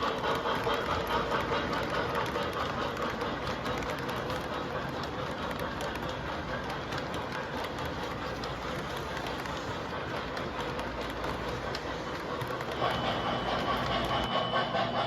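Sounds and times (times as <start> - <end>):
faint clicks from rails: 0.0 - 15.0
model train running: 0.0 - 15.0.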